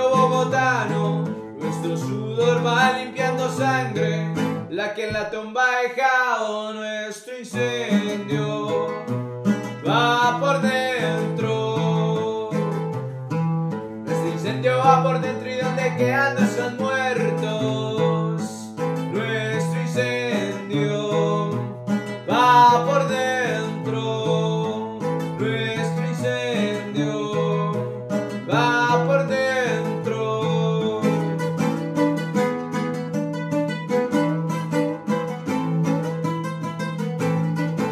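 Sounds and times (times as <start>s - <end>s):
plucked string instrument: 0.0s - 5.4s, 7.6s - 37.9s
man singing: 0.0s - 13.2s, 14.1s - 32.3s.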